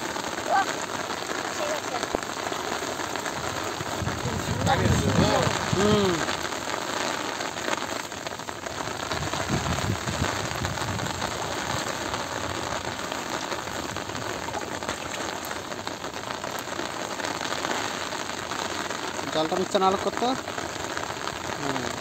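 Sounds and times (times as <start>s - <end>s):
rain falling on water: 0.0s - 22.0s.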